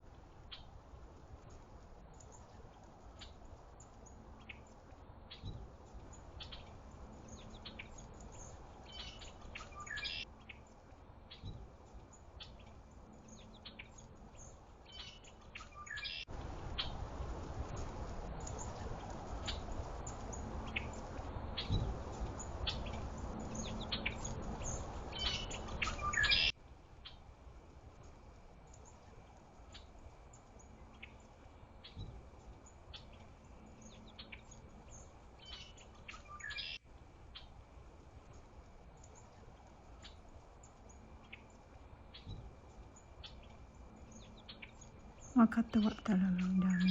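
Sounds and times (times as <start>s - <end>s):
low outdoor rumble: 0.0s - 46.9s
small birds chirping: 0.0s - 46.9s.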